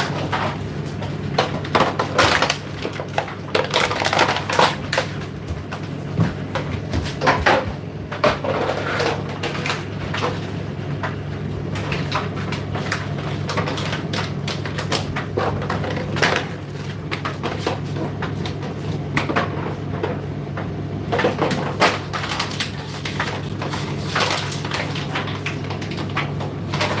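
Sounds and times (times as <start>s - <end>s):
tumble dryer motor hum: 0.0s - 27.0s.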